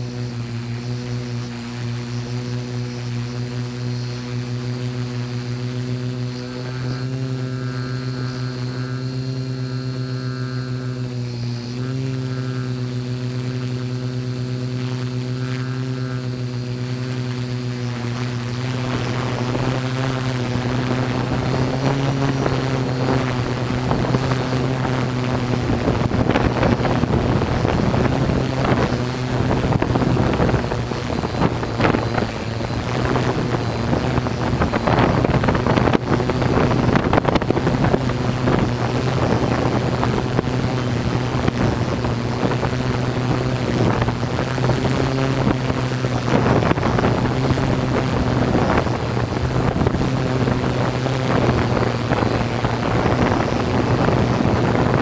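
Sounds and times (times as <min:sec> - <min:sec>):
drone propellers buzzing: 0:00.0 - 0:55.0
wind noise on microphone: 0:00.0 - 0:55.0.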